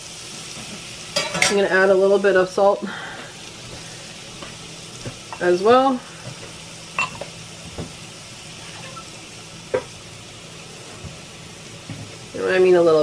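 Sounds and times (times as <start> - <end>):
mushrooms sizzling in oil: 0.0 - 13.0.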